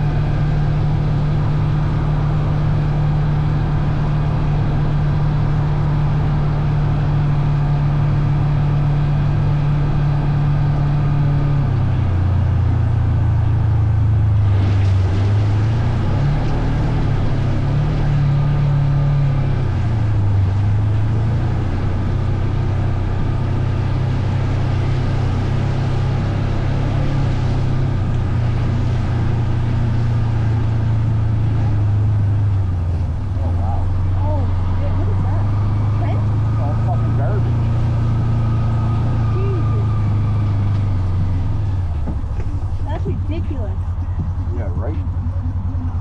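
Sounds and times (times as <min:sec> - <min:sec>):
road and wind noise: 0:00.0 - 0:46.0
vehicle engine running: 0:00.0 - 0:46.0.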